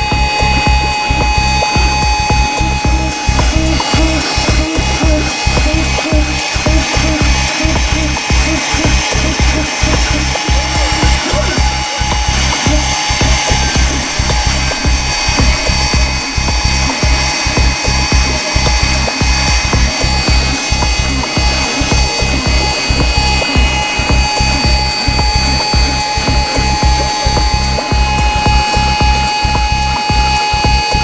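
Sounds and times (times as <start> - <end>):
mill spindle high whine: 0.0 - 31.0.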